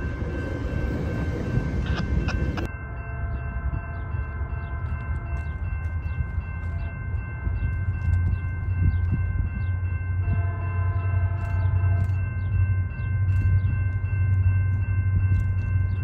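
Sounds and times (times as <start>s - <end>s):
crossing bell ringing: 0.0s - 16.0s
train rumble: 0.0s - 16.0s.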